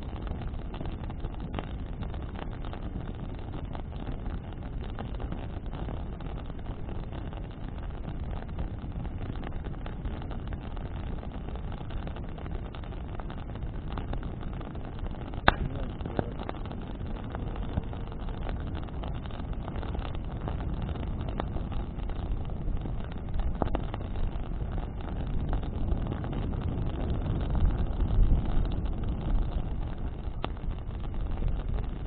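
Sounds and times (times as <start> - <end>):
fire crackling: 0.0 - 32.0
sharp pop from fire: 0.0 - 32.0
wind and flame rumble: 0.0 - 32.0.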